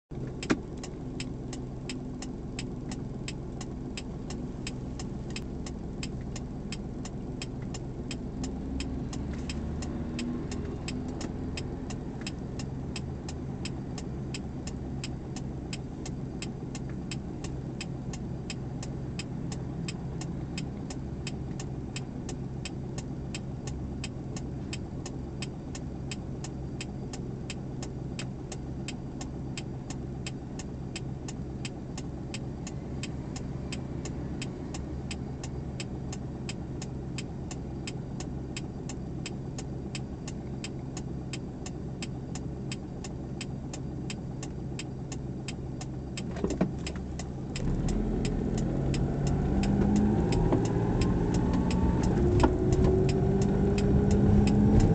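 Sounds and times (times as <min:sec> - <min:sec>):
car engine idling: 0:00.1 - 0:54.9
turn signal relay clicking: 0:00.2 - 0:54.9.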